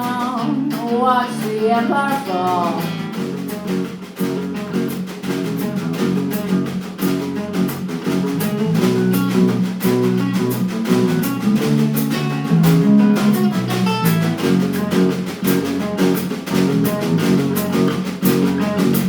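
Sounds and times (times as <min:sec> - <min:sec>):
drum and cymbal hits: 0:00.0 - 0:19.0
guitar chords: 0:00.0 - 0:19.0.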